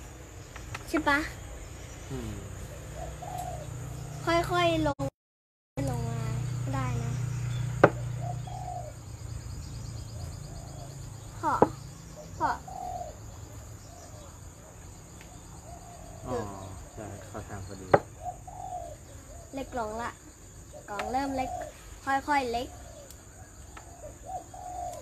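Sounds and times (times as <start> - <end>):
insects whirring: 0.0 - 5.0, 5.8 - 25.0
birds chirping: 0.0 - 5.1, 5.8 - 25.0.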